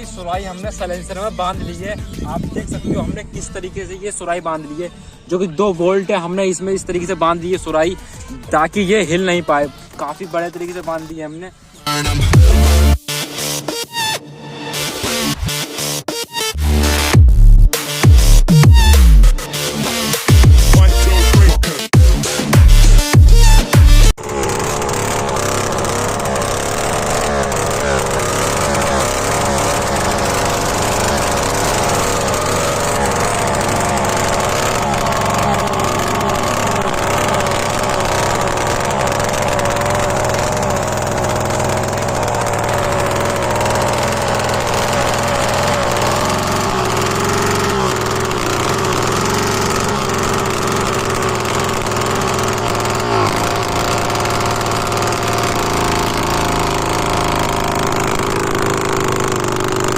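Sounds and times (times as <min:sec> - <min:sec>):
motorcycle engine running: 0:00.0 - 0:05.4, 0:06.2 - 0:13.5, 0:16.5 - 0:59.9.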